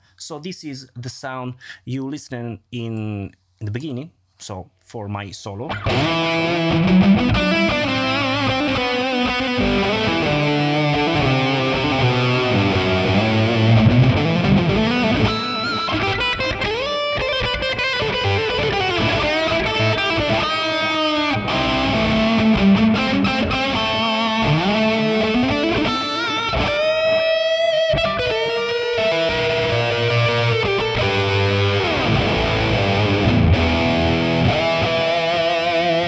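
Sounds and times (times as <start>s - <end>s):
distorted electric guitar solo: 5.7s - 36.0s.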